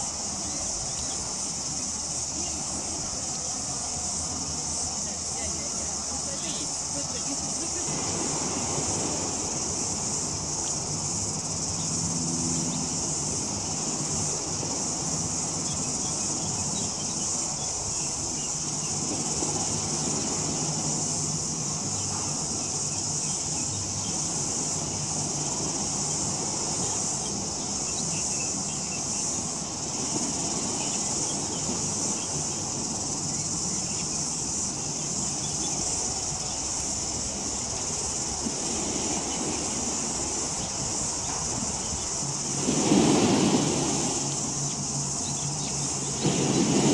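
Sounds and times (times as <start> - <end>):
high-pitched insect chorus: 0.0 - 46.9.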